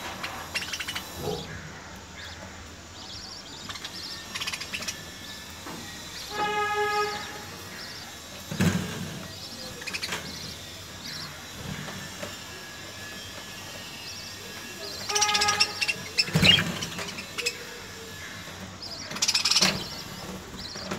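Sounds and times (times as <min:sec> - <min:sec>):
budgerigar chicks calling: 0:00.0 - 0:20.9.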